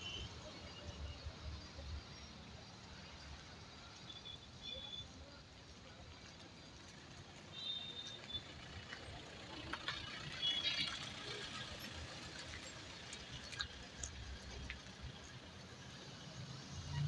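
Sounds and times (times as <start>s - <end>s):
faint road noise: 0.0s - 17.0s.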